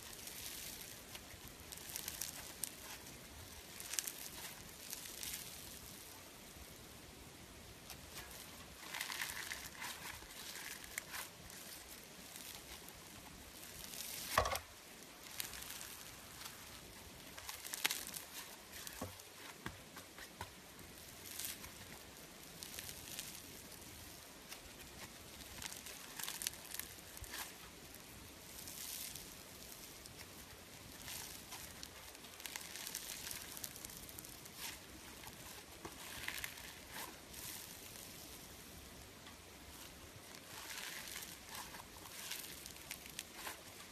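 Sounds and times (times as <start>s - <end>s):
slime squish: 0.0s - 6.2s, 7.8s - 38.6s, 39.4s - 43.9s.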